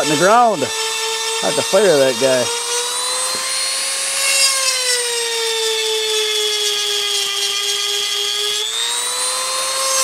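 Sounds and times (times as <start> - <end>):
rotary tool grinding metal: 0.0 - 10.0.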